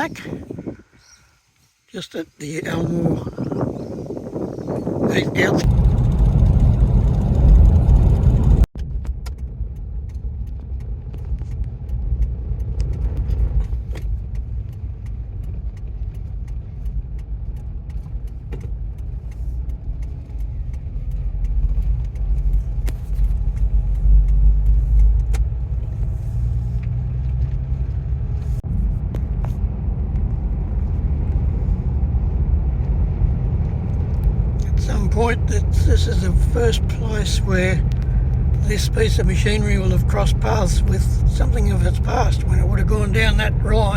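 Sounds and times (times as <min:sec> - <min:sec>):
vehicle engine and tyres rumbling: 0:02.7 - 0:43.9.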